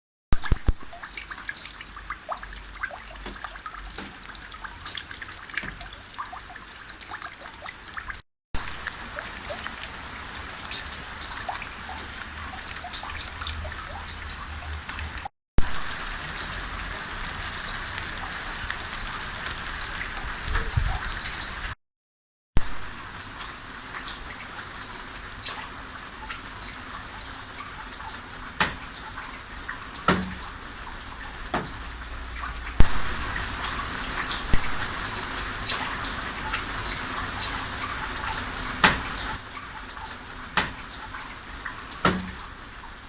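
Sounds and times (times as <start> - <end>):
rain patter: 0.4 - 21.8, 22.6 - 43.0.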